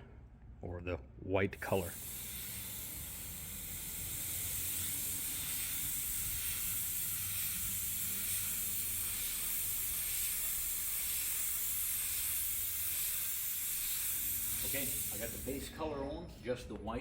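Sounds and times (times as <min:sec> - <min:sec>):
paint spray gun hissing: 0:01.6 - 0:15.8.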